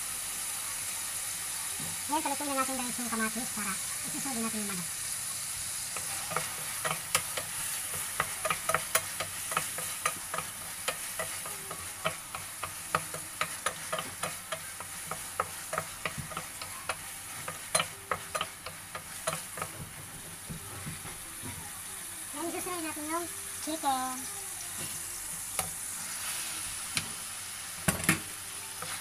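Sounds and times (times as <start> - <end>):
tomatoes sizzling in oil: 0.0 - 29.0.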